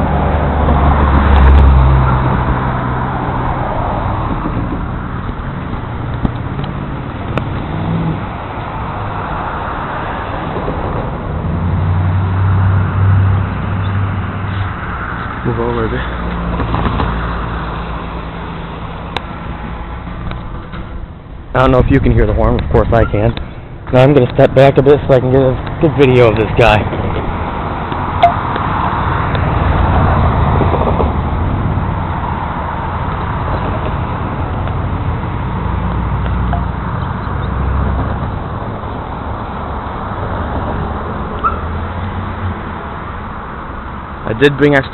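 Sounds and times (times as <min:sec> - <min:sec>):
engine humming: 0:00.0 - 0:44.9.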